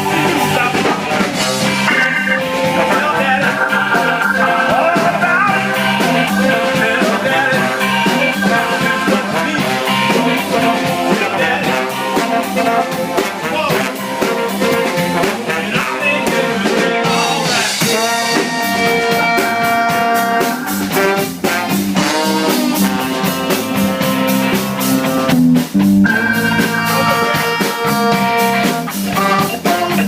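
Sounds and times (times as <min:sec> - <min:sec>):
electric guitar playing: 0:00.0 - 0:13.2, 0:17.4 - 0:21.8, 0:23.2 - 0:29.9
drum kit steady beat: 0:00.0 - 0:30.0.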